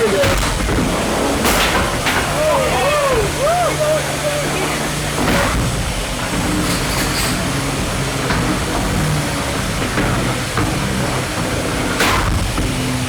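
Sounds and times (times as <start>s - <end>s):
robot motors humming: 0.0s - 13.0s.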